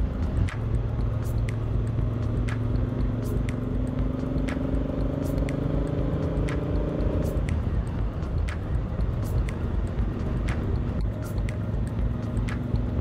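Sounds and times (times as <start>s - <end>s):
heavy wind rumble: 0.0s - 4.9s, 6.8s - 13.0s
motorcycle engine running: 0.0s - 13.0s.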